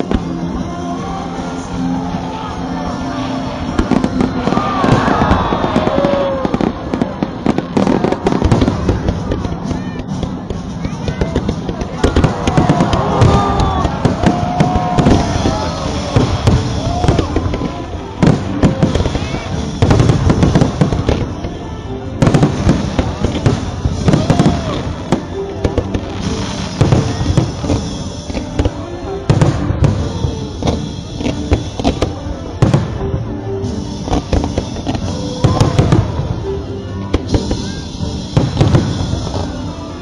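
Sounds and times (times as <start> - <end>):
fireworks bangs and crackles: 0.0 - 40.0
music playing: 0.0 - 40.0.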